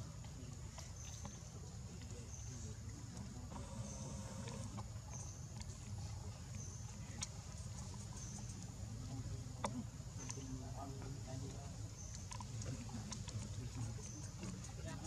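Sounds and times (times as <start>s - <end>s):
insects buzzing chirp: 0.0s - 15.0s.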